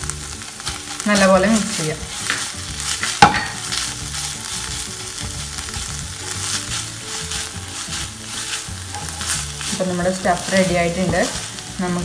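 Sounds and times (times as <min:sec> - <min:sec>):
food sizzling: 0:00.0 - 0:12.0
spatula scraping a pan: 0:00.2 - 0:12.0.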